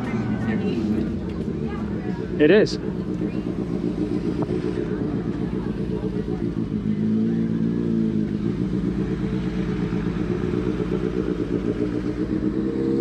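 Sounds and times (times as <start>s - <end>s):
pickup engine droning: 0.0s - 13.0s.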